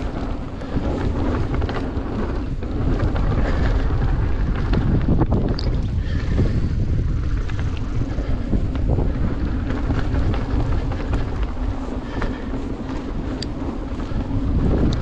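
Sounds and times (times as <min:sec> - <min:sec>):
bike rattles and clicks: 0:00.0 - 0:15.0
tyre noise on dirt: 0:00.0 - 0:15.0
wind buffeting microphone: 0:00.0 - 0:15.0.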